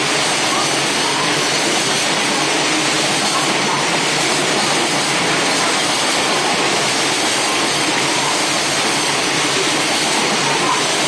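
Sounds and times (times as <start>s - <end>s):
train wheels rolling on rail: 0.0s - 11.0s.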